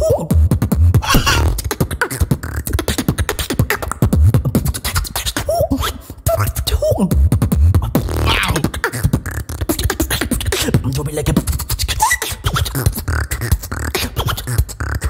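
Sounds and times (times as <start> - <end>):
human beatboxing: 0.0 - 15.0.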